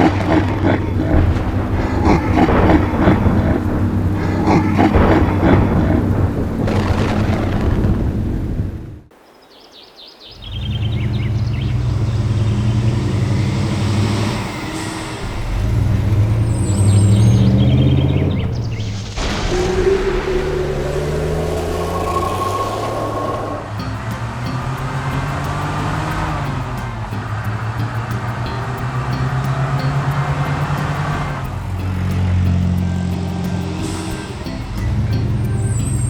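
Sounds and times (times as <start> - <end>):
cartoon truck engine rumbling: 0.0 - 9.1, 10.5 - 36.0.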